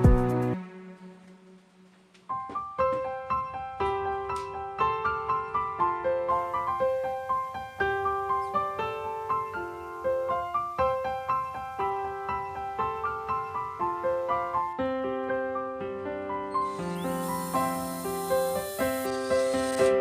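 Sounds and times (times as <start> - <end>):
background piano music: 0.0 - 20.0.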